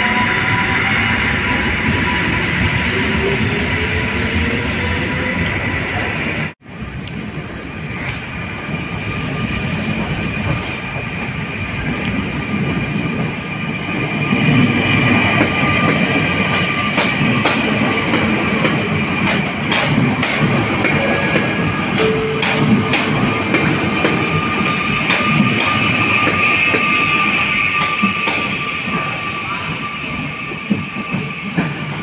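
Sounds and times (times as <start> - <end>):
electric train whine: 0.0 - 32.0
train wheels rumbling: 0.0 - 32.0.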